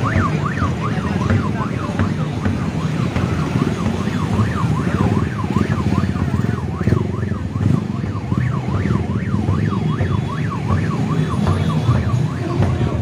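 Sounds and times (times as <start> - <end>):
electronic sirens yelping: 0.0 - 13.0
motorcycle engines running: 0.0 - 13.0.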